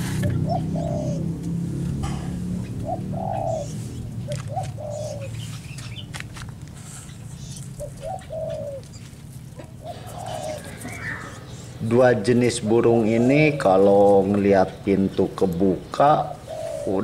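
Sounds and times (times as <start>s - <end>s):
dove cooing: 0.0s - 6.1s, 6.7s - 14.8s, 15.5s - 17.0s.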